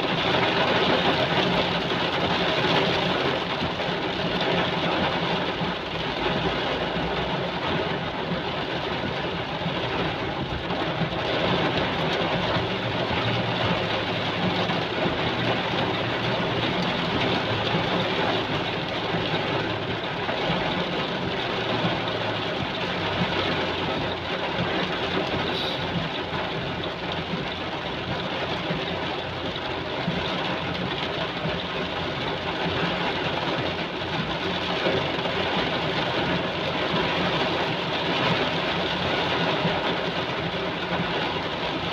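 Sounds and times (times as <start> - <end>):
heavy rain downpour: 0.0 - 41.9
low engine hum: 0.0 - 41.9.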